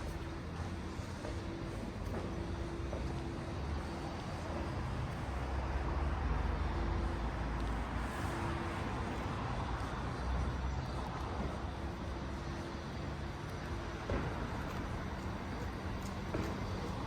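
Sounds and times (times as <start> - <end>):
urban traffic rumble: 0.0 - 17.0.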